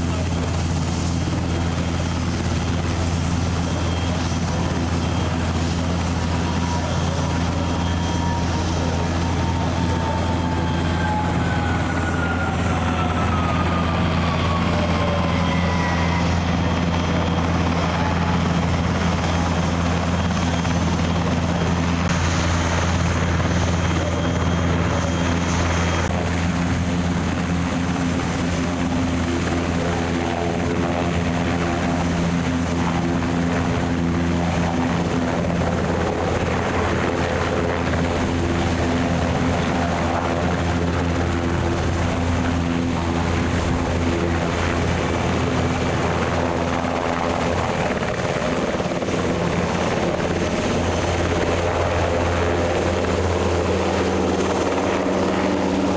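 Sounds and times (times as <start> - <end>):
helicopter engine and rotor drone: 0.0 - 55.9
high-pitched helicopter whine: 0.0 - 55.9.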